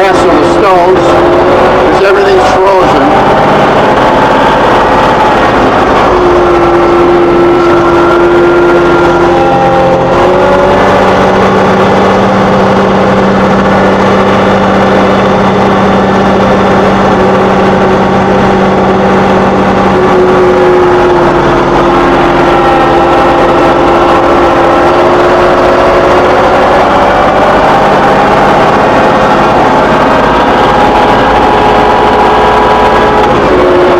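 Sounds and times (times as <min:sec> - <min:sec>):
steady whine: 0:00.0 - 0:33.9
tractor diesel engine running: 0:00.0 - 0:33.9.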